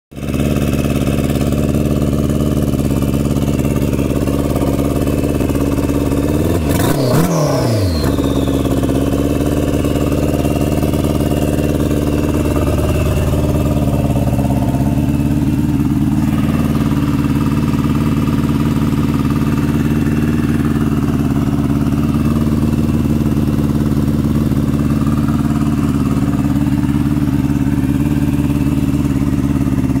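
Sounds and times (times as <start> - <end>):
motorcycle engine idling unevenly: 0.1 - 30.0.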